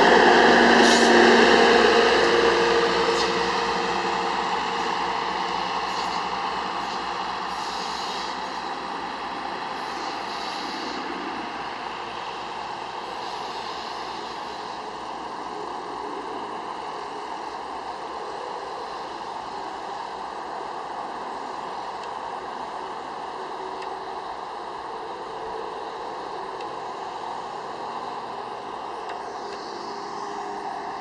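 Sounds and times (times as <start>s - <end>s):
truck engine on railway track: 0.0s - 31.0s.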